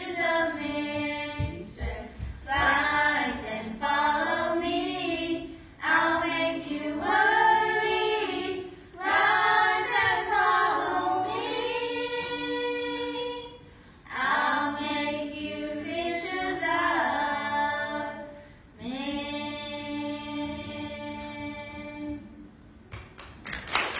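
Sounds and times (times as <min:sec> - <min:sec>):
children singing together: 0:00.0 - 0:22.4.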